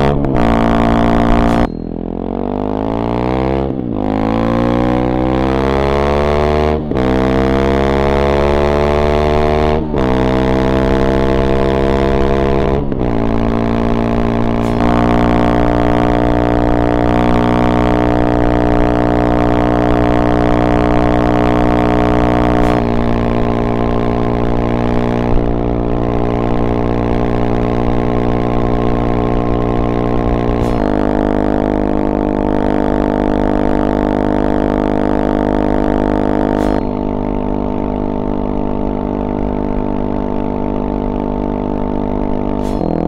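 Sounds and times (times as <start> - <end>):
motorcycle engine at full throttle: 0.0 - 43.0.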